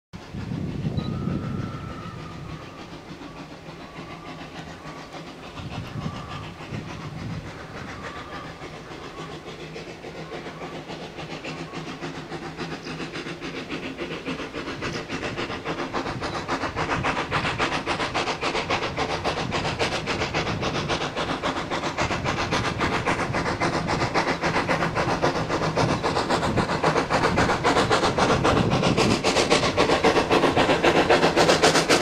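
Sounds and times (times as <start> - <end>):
steam locomotive exhaust beating: 0.2 - 32.0.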